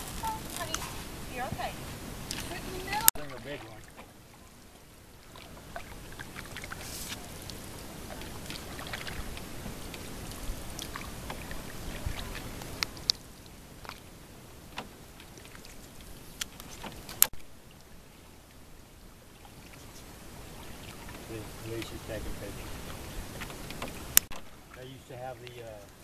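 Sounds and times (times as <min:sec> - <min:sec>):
water swishing and dripping: 0:00.0 - 0:26.0.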